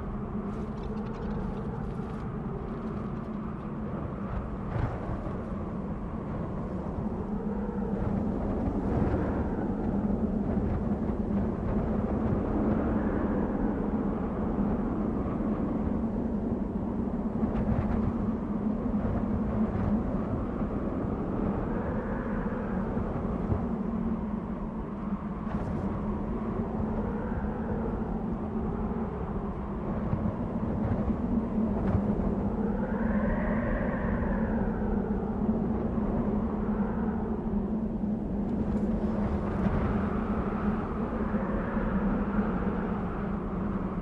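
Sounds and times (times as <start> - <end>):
whistling wind gusts: 0.0 - 44.0
wind blowing with low drone: 0.0 - 44.0.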